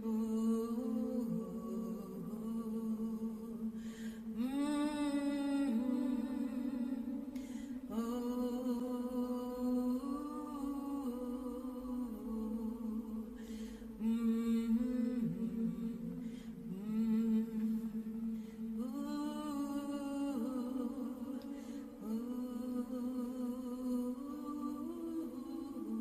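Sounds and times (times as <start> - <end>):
slow vocal chant: 0.0 - 26.0.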